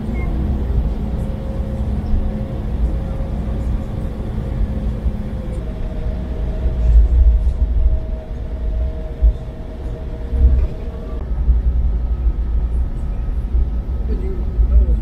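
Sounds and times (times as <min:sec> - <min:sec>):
heavy low rumble: 0:00.0 - 0:15.0
jet engines humming: 0:00.0 - 0:15.0.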